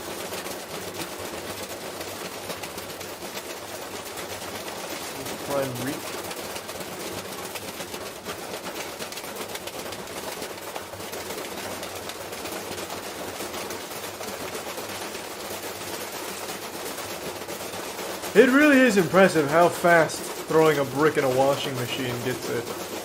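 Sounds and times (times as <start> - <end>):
brick rattling in washing machine: 0.0 - 23.0
washing machine hum: 0.0 - 23.0.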